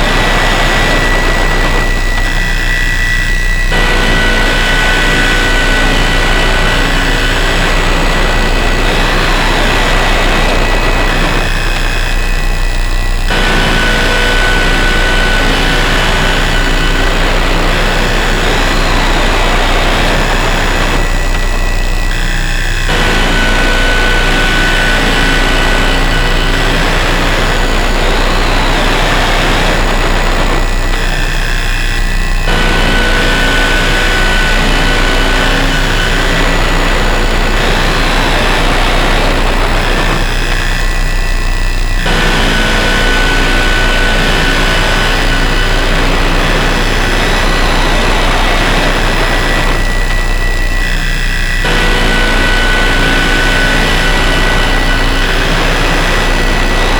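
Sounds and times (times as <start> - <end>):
harsh noise drone: 0.0 - 56.9
steady low hum: 0.0 - 56.9.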